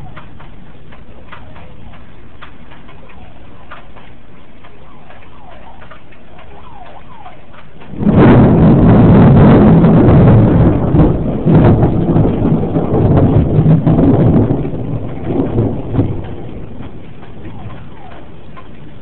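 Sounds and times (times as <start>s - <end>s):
thunder crack and rumble: 0.0s - 19.0s.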